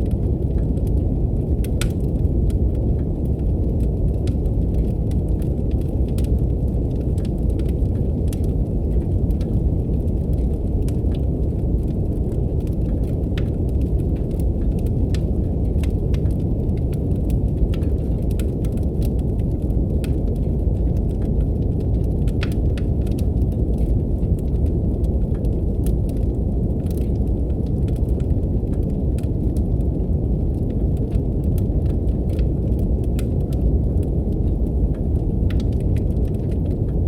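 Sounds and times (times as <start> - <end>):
low steady brown noise hiss: 0.0 - 37.0
wood fire crackling: 0.0 - 37.0.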